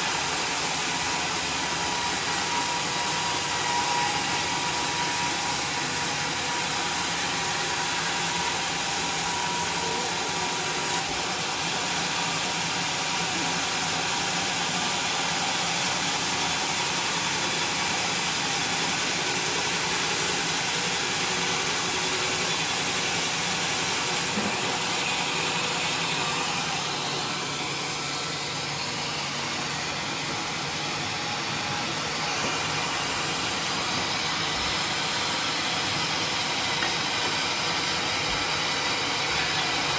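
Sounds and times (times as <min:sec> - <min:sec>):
sawmill machine running: 0:00.0 - 0:39.9.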